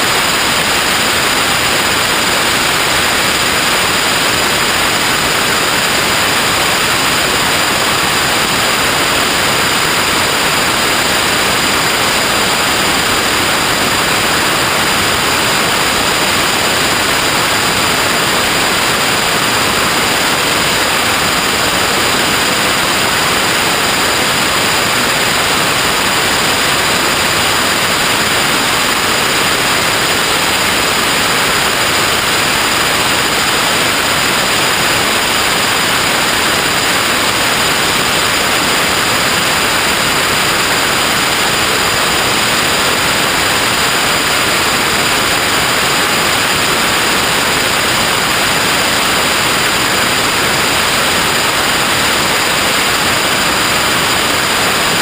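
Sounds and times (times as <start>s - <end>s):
static hiss: 0.0s - 55.0s.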